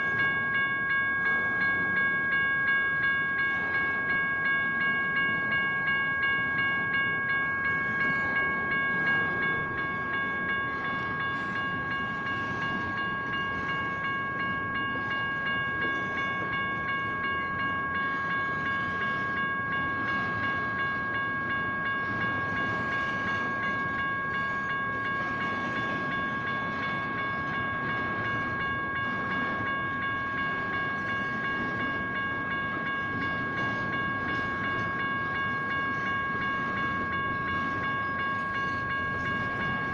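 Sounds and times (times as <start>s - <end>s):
electronic crossing bells ringing: 0.0s - 39.9s
train cars rolling: 0.0s - 39.9s.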